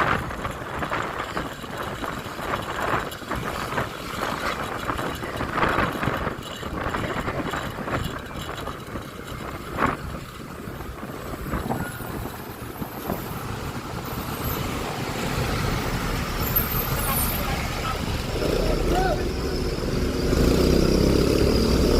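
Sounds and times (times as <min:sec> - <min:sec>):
scooter engine: 0:00.0 - 0:21.9
surrounding traffic noise: 0:00.0 - 0:21.9.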